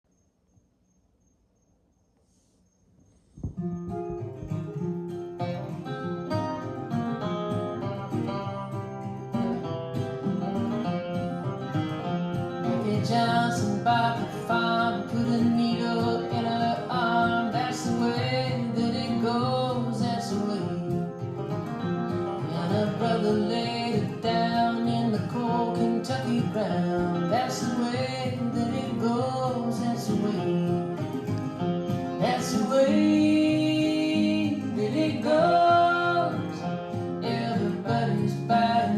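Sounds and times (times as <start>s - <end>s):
country guitar music: 3.4s - 38.9s.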